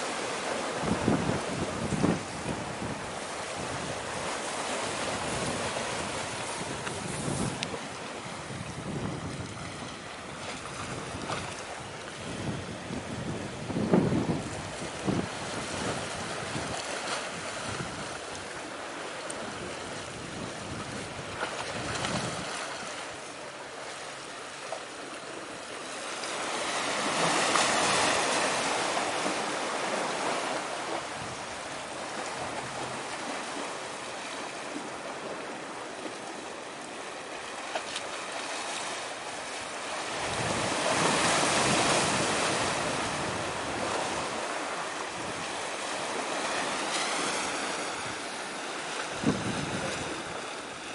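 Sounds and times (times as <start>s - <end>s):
sea surf washing: 0.0s - 50.9s.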